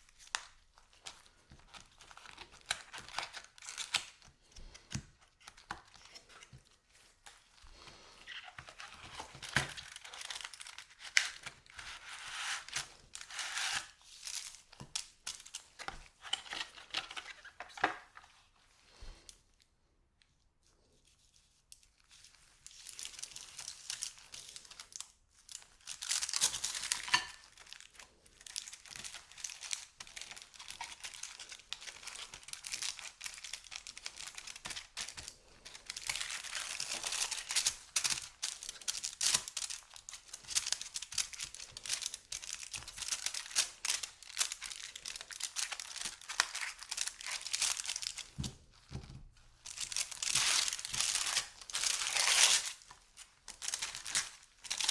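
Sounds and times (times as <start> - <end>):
wrapper crinkling and tearing: 0.0 - 6.6, 7.2 - 17.9, 21.9 - 48.9, 49.6 - 54.9.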